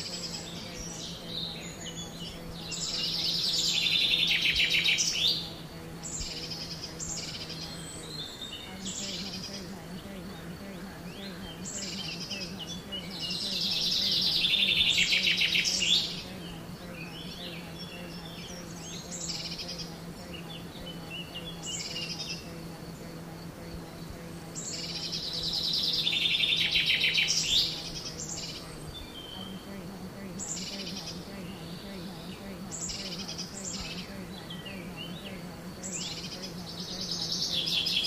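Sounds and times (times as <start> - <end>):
faint low hum: 0.0 - 38.0
songbird rapid trilling song: 0.0 - 38.0.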